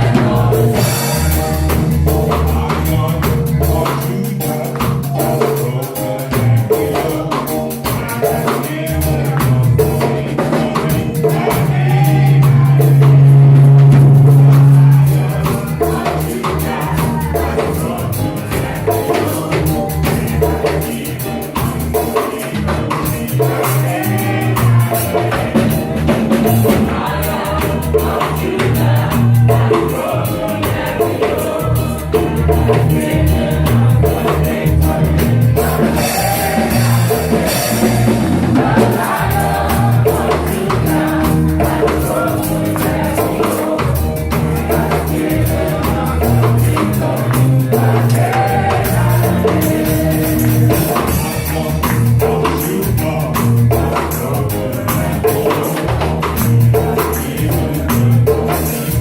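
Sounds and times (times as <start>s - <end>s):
bass line: 0.0s - 59.0s
drum kit: 0.0s - 59.0s
gospel singing: 0.0s - 59.0s.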